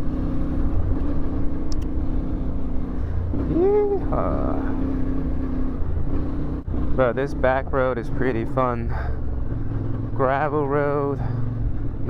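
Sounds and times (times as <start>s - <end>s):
low wind rumble: 0.0s - 10.4s
motorcycle engine running: 0.0s - 12.0s.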